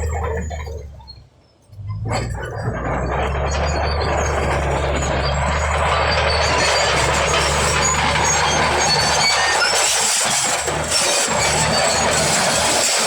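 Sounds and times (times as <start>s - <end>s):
diesel engine running: 0.0s - 13.0s
metal rattling and clanking: 1.9s - 13.0s.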